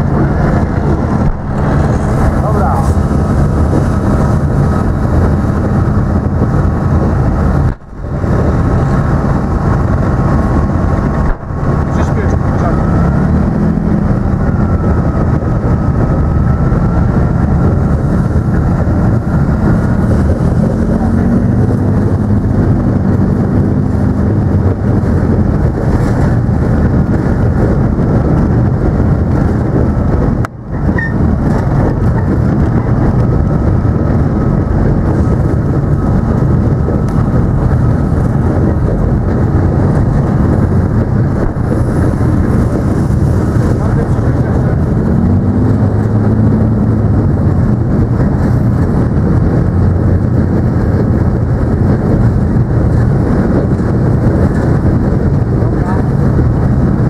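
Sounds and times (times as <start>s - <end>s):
tank diesel engine and tracks: 0.0s - 57.0s.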